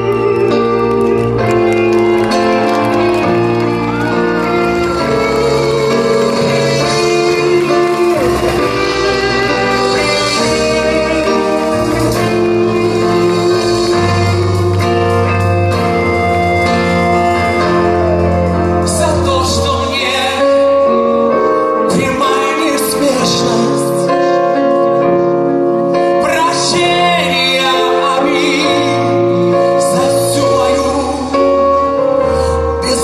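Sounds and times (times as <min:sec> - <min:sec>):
electric guitar: 0:00.0 - 0:33.0
man singing: 0:04.4 - 0:33.0.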